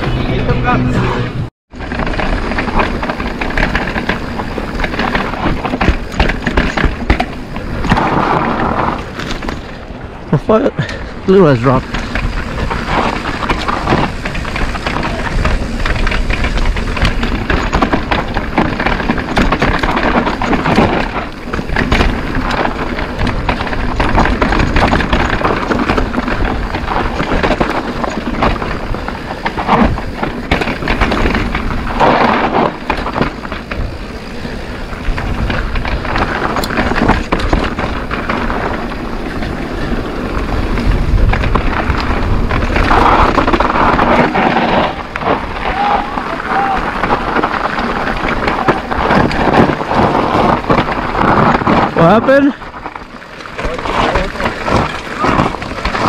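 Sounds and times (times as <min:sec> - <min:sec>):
bike rattling over bumps: 0:00.0 - 0:56.0
wind rushing over microphone: 0:00.0 - 0:56.0
tyres crunching over gravel: 0:01.7 - 0:56.0.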